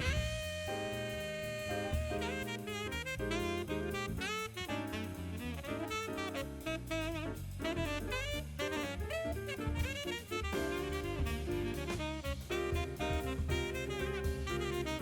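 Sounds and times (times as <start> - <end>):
bass: 0.0 - 15.0
drums: 0.0 - 15.0
saxophone melody: 0.0 - 15.0.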